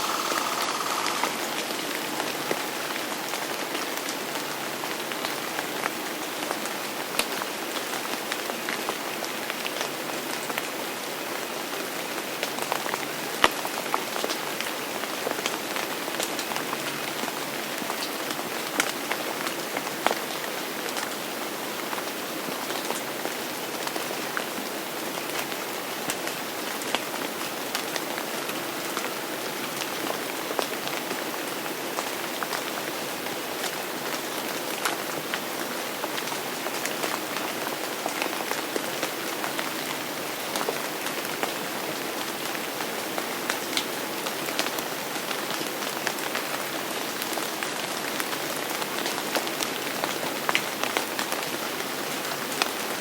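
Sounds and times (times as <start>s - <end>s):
rain on hard surface: 0.0s - 53.0s.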